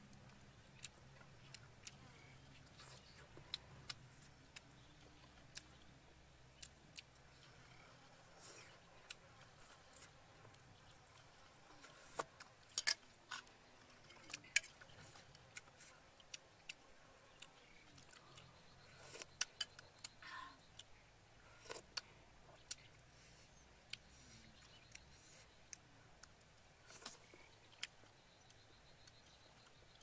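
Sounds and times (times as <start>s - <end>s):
quiet eating sounds: 0.0s - 30.0s.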